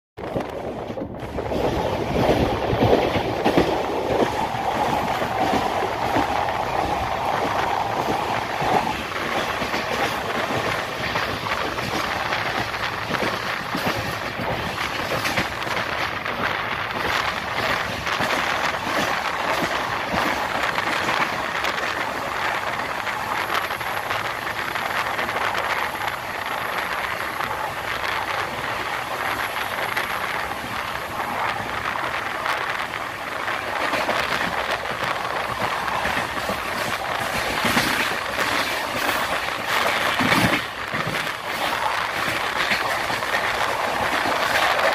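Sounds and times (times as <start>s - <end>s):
train coaches rushing past: 0.2s - 44.9s
wheels clattering over rails: 0.2s - 44.9s.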